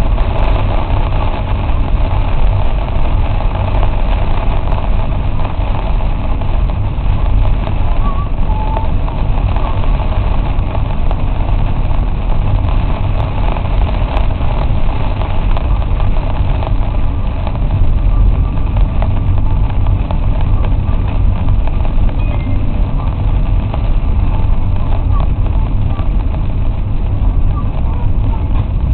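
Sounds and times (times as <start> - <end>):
road noise: 0.0 - 28.9
vehicle engine rumble: 0.0 - 28.9.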